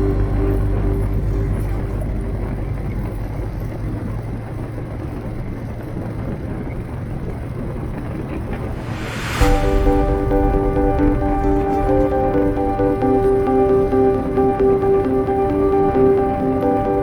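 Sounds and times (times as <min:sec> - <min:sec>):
road and wind noise: 0:00.0 - 0:15.4.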